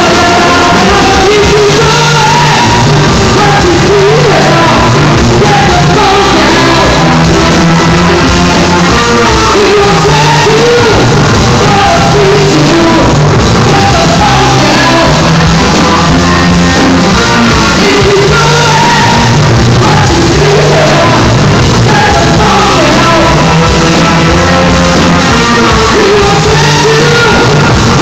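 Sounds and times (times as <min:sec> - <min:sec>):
lead singer belting: 0:00.0 - 0:28.0
live funk rock band: 0:00.0 - 0:28.0.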